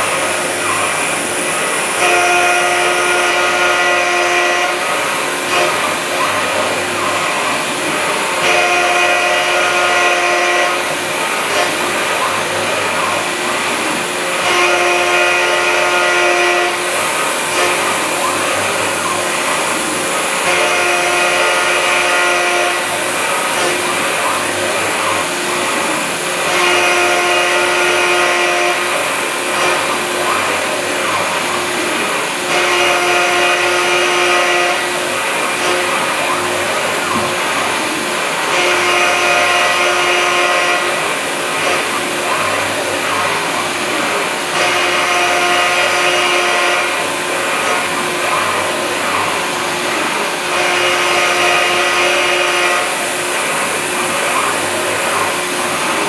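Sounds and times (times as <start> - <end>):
milling machine spindle running: 0.0 - 56.0.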